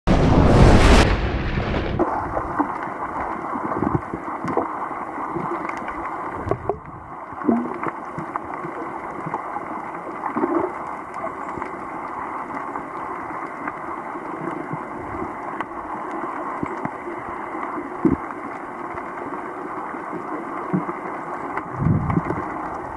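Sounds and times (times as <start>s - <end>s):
low gurgles: 0.1s - 22.9s
muffled underwater rush: 0.1s - 22.9s
faint underwater clicks: 2.6s - 22.9s.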